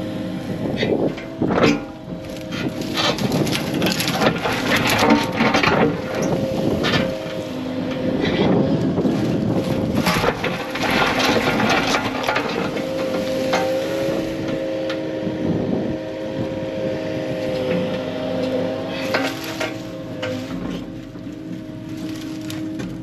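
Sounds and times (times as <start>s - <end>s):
diesel engine running: 0.0s - 23.0s
brush and rock cracking: 0.9s - 14.6s, 17.4s - 23.0s.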